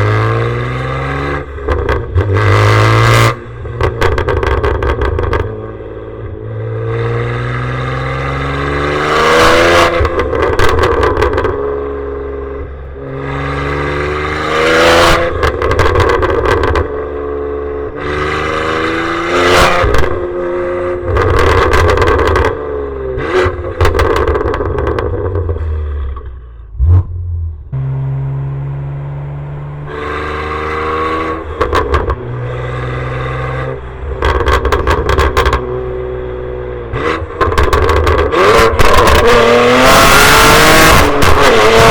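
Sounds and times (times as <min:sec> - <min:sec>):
car engine accelerating through gears: 0:00.0 - 0:41.9.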